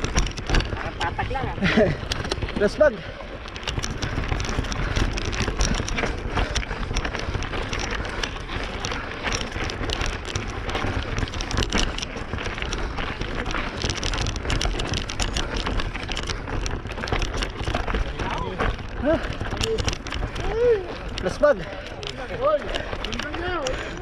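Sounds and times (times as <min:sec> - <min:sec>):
bike rattling: 0:00.0 - 0:24.0
bike tyres crunching over gravel: 0:00.0 - 0:24.0.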